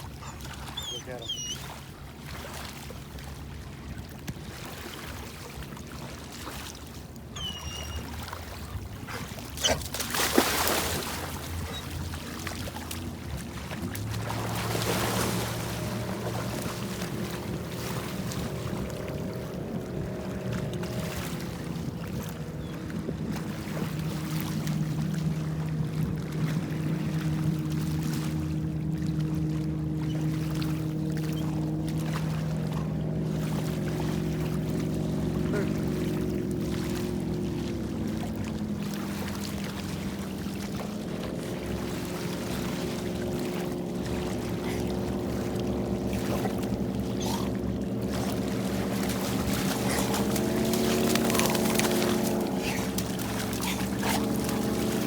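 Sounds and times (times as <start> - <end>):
boat motor running: 0.0 - 55.0
water and wind noise: 0.0 - 55.0.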